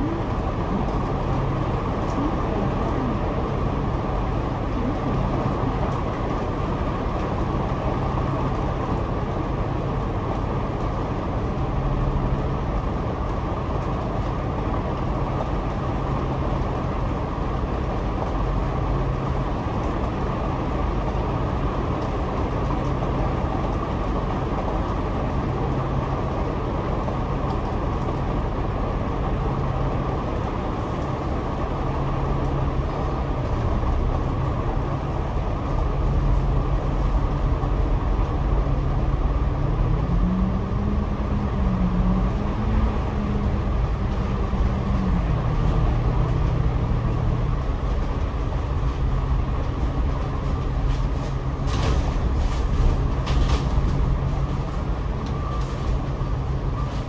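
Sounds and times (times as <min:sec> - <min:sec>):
bus engine drone: 0:00.0 - 0:57.0
road and cabin noise: 0:00.0 - 0:57.0.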